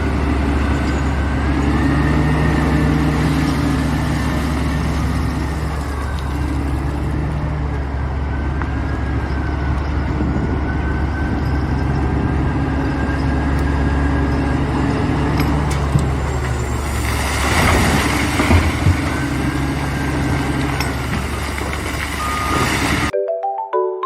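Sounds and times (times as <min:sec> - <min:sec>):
heavy vehicle engine running: 0:00.0 - 0:23.1.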